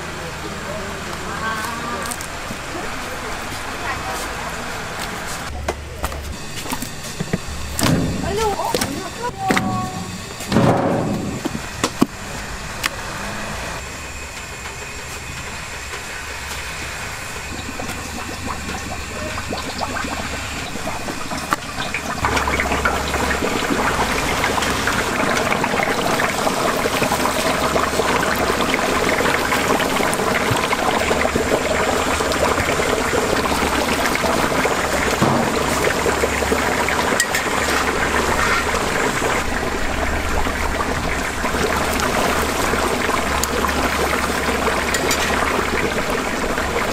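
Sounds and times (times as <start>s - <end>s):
oil bubbling and sizzling: 6.2s - 46.9s.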